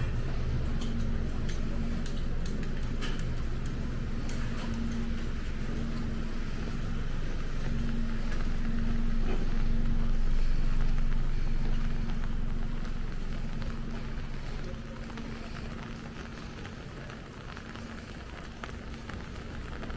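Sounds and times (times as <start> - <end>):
vehicle engine running: 0.0 - 19.9.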